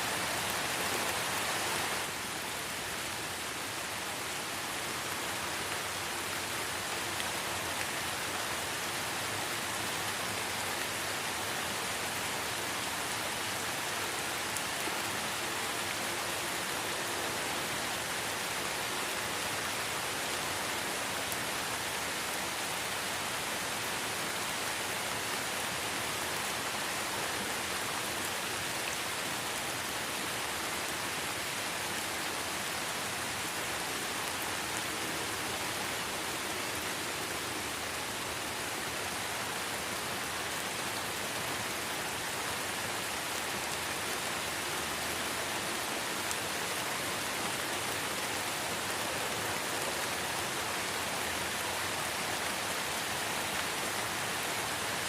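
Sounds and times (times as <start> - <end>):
light rain falling: 0.0 - 55.0.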